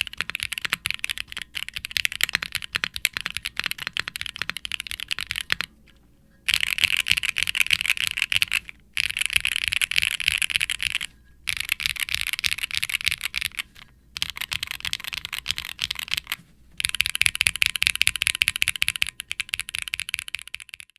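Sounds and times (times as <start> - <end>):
mechanical keyboard typing: 0.0 - 20.9.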